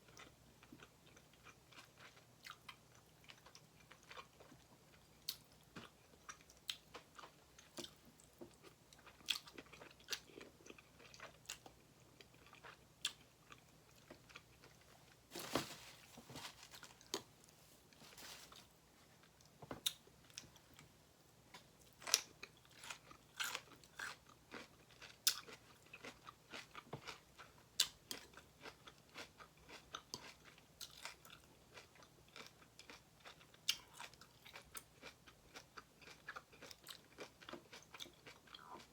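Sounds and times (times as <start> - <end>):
person chewing and crunching food: 0.0 - 38.9.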